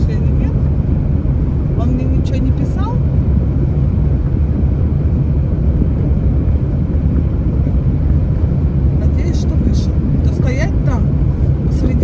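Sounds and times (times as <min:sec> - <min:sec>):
car interior engine rumble: 0:00.0 - 0:12.0.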